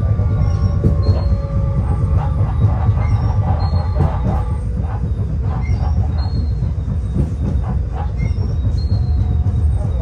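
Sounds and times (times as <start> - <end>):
tram wheels rumbling on rail: 0.0 - 10.0.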